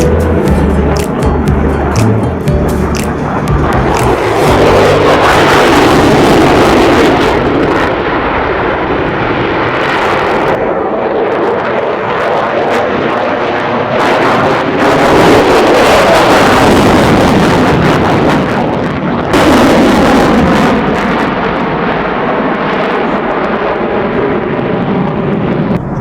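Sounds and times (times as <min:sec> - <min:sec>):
aircraft engine: 0:00.0 - 0:26.0.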